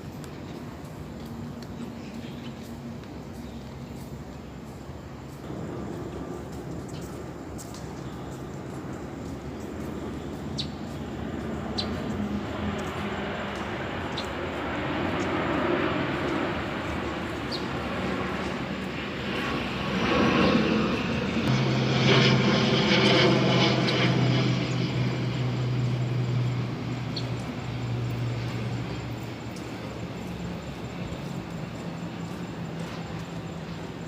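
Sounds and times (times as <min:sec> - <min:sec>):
engine hum: 0:00.0 - 0:34.0.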